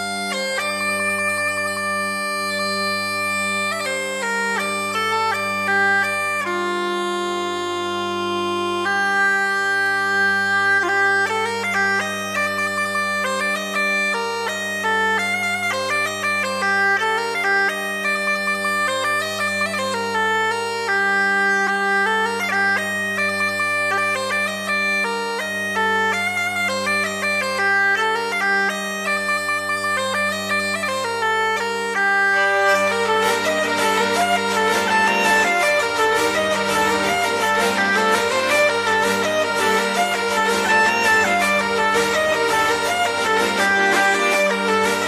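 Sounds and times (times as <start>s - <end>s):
folk melody over drone: 0.0s - 45.0s.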